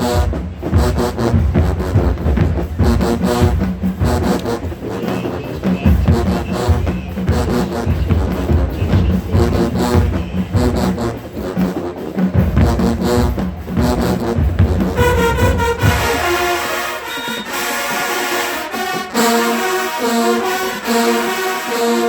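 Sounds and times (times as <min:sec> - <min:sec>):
brass chords: 0:00.0 - 0:22.0.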